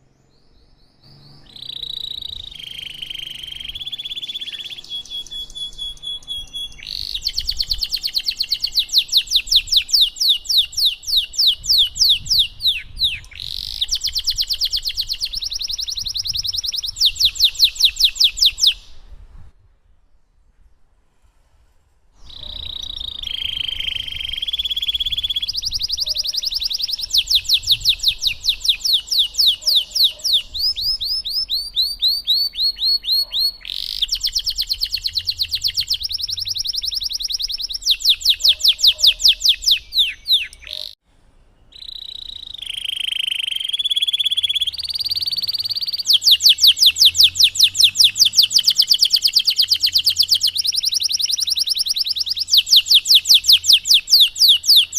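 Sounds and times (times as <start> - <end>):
canary singing trills: 0.0 - 19.0, 22.2 - 41.0, 41.7 - 54.9.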